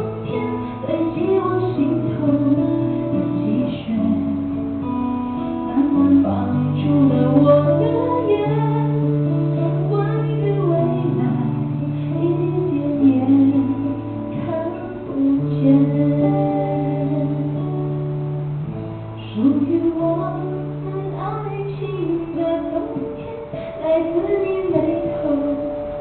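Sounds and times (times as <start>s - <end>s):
woman singing: 0.0s - 18.1s, 18.7s - 26.0s
acoustic guitar: 0.0s - 26.0s.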